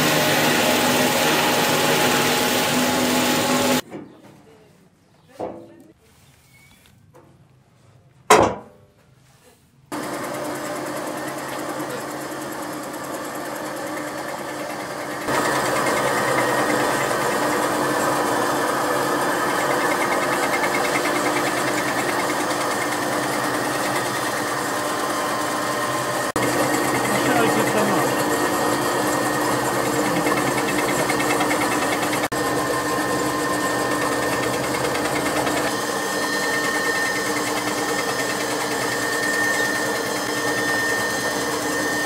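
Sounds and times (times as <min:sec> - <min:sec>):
bristle roller machine running: 0:00.0 - 0:03.8, 0:09.9 - 0:42.0.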